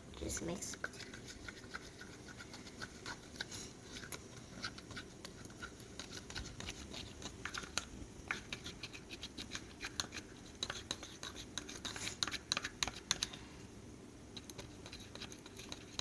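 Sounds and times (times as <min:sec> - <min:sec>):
plastic spoon stirring slime: 0:00.2 - 0:13.5, 0:14.3 - 0:16.0.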